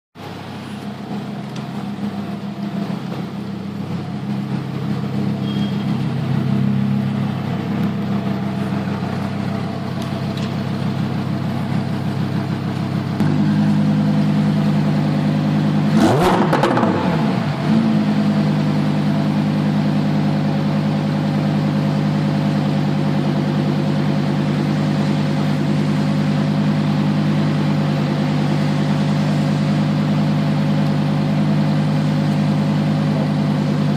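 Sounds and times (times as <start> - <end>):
sports car engine idling and revving: 0.2 - 33.9.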